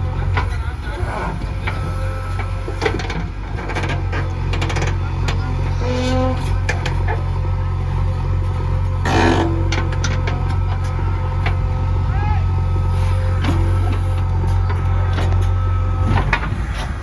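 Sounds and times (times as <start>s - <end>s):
diesel engine running: 0.0s - 17.0s
metal clanks and knocks: 0.2s - 7.4s, 8.0s - 11.7s, 13.3s - 17.0s.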